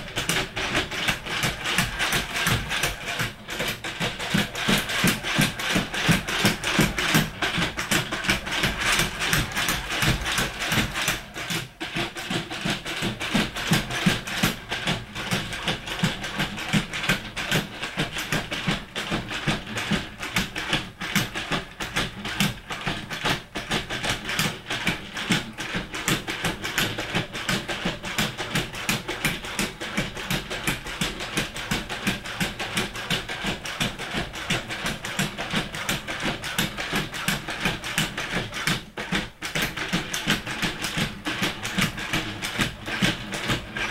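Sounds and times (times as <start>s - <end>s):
robot feet tapping floor: 0.0s - 43.9s.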